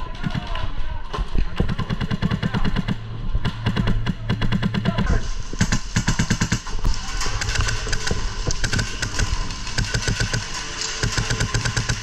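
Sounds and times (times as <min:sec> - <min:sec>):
airsoft rifle firing rapid shots: 0:00.1 - 0:00.7, 0:01.5 - 0:12.0.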